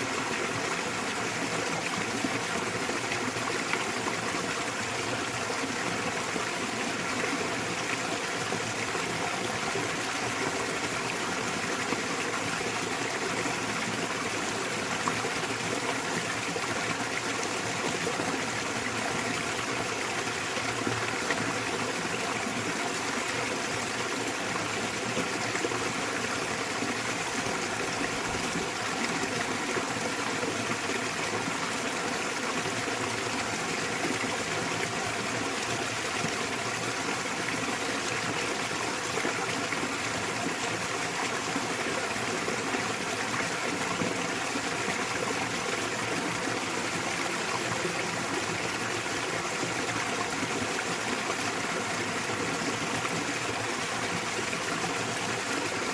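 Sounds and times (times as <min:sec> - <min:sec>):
small waterfall splashing: 0:00.0 - 0:55.9.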